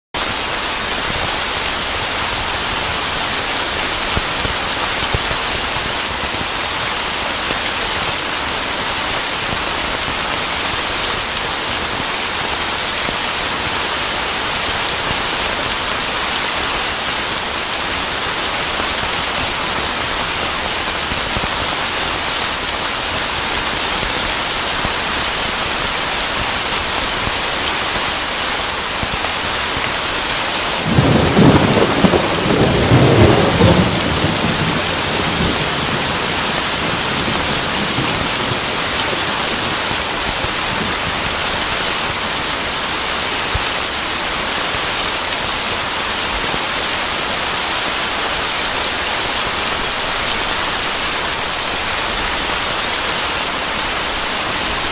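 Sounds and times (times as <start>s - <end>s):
heavy rain: 0.1s - 54.9s.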